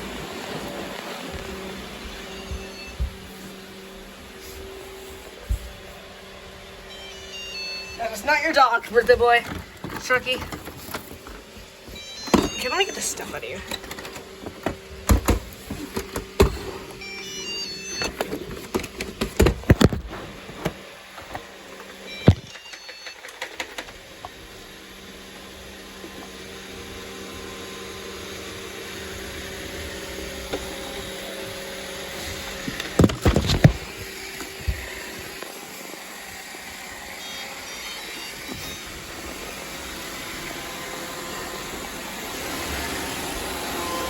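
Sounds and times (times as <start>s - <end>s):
robot vacuum humming: 0.0s - 44.0s.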